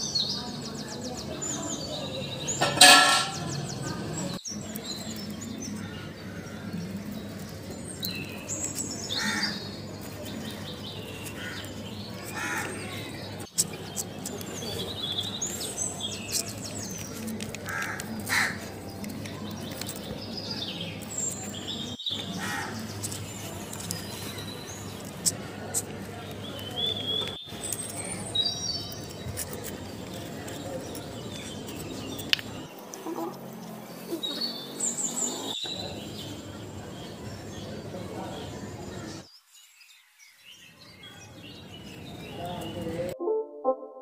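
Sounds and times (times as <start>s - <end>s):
harsh bird calls: 0.0s - 39.4s
birds chirping: 0.0s - 43.2s.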